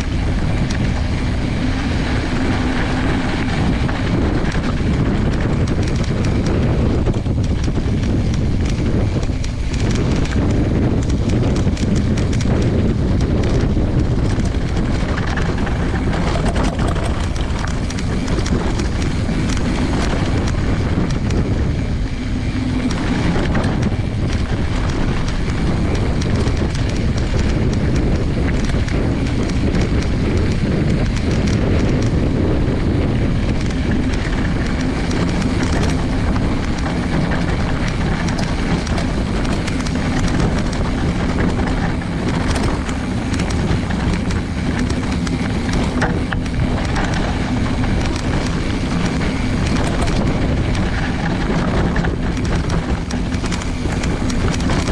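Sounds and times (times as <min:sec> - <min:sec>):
bike rattling over stones: 0:00.0 - 0:54.9
bike tyre rolling over gravel: 0:00.0 - 0:54.9
wind on microphone: 0:00.0 - 0:54.9.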